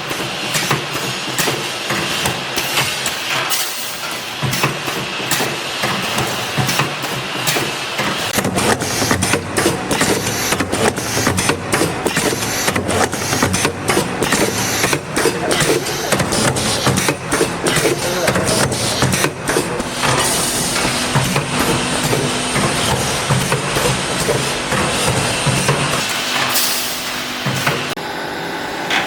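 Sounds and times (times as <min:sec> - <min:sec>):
machine clacking: 0:00.0 - 0:28.0
welding machine hum: 0:00.1 - 0:29.0.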